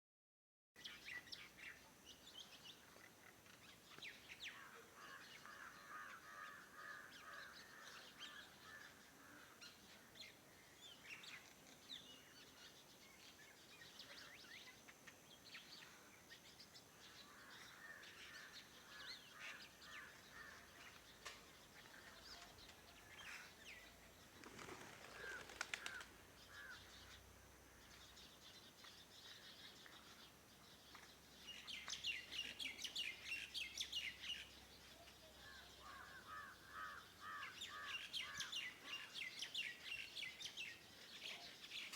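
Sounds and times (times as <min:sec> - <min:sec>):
birds chirping and trilling: 0:00.8 - 0:41.9.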